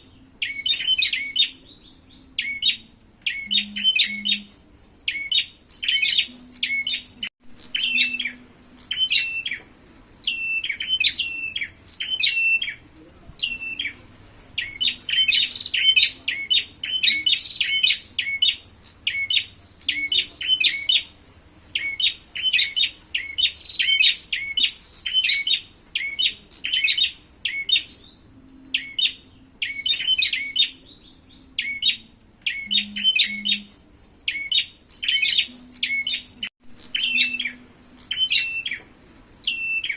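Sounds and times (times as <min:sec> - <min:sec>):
birds giving sharp chattering calls: 0:00.0 - 0:39.9.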